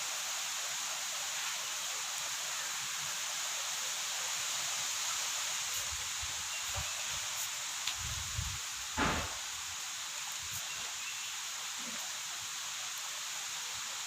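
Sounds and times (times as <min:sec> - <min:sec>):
wind through trees: 0:00.0 - 0:14.0.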